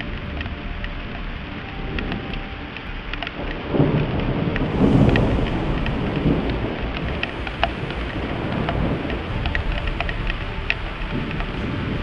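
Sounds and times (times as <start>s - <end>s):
sharp raindrop ticks: 0.0s - 12.0s
steady rain: 0.0s - 12.0s
thunder rumbling: 0.0s - 12.0s.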